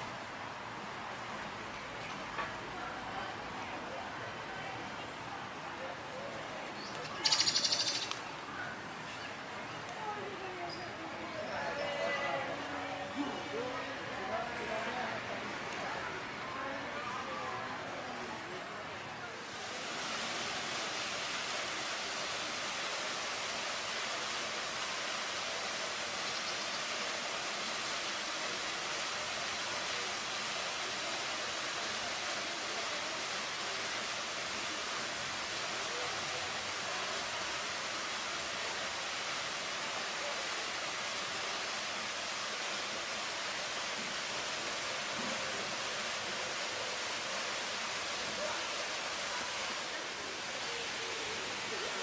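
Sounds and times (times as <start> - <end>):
fountain water splashing: 0.0 - 11.6, 12.5 - 52.0.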